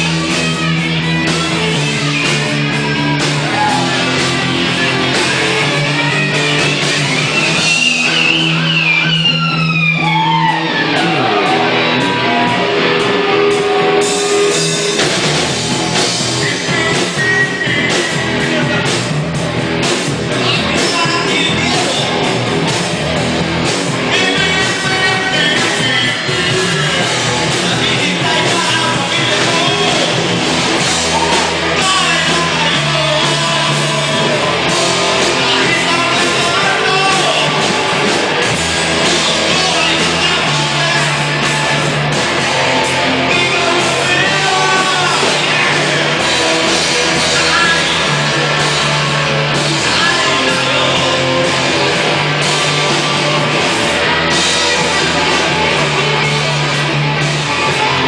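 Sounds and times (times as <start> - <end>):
rock song with singing: 0.0 - 58.0.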